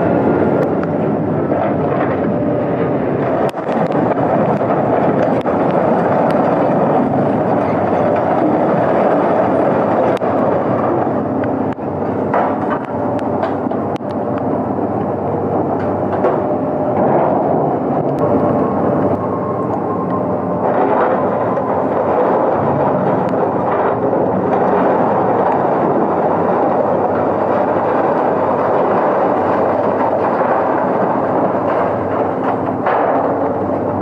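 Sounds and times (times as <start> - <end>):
heavy machinery running: 0.0 - 34.0.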